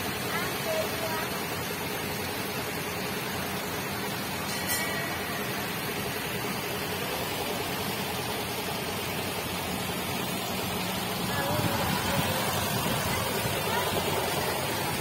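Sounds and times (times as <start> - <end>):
small train rushing noise: 0.0 - 15.0.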